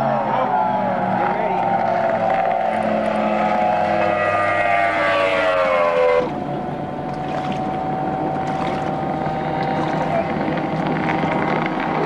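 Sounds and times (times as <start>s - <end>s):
engine drone: 0.0s - 12.0s
race boat engine passing: 0.0s - 12.0s
water and wind noise: 0.0s - 12.0s.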